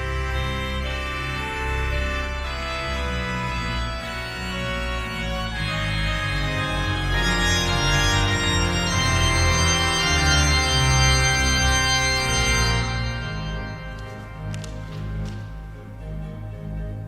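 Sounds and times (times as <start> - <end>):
organ playing chords: 0.0 - 17.0.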